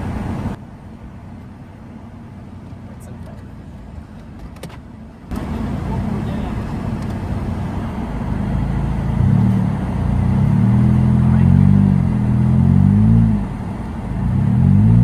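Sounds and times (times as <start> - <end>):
car engine revving: 2.6 - 15.0.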